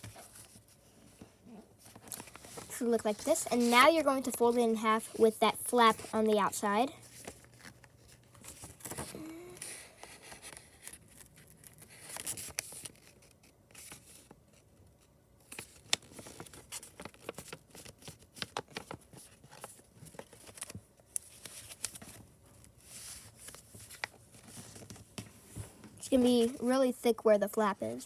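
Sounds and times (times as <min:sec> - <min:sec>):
paper rustling and crackling: 0:00.0 - 0:14.7, 0:15.4 - 0:26.8.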